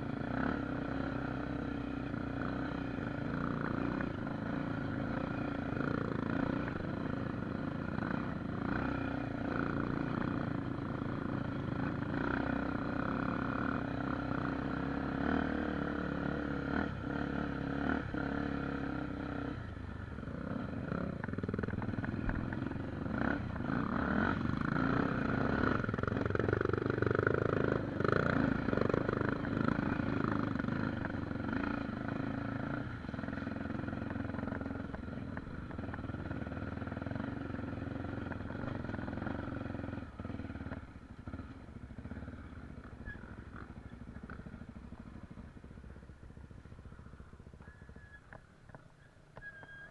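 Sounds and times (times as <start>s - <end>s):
motorcycle engine running: 0.0s - 49.1s.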